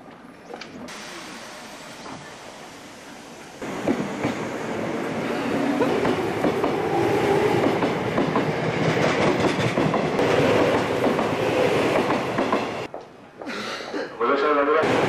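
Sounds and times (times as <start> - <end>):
train wheels rumbling on rails: 0.9 - 13.1.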